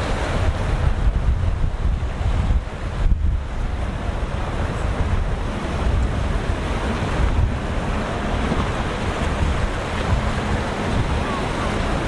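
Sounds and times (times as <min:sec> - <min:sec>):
rough surf: 0:00.0 - 0:12.0
wind buffeting microphone: 0:00.0 - 0:12.0.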